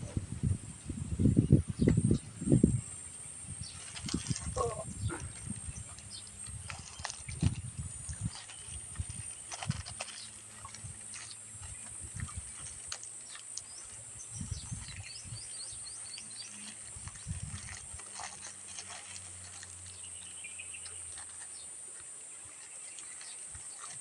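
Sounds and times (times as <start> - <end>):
soft chewing: 4.0 - 24.0.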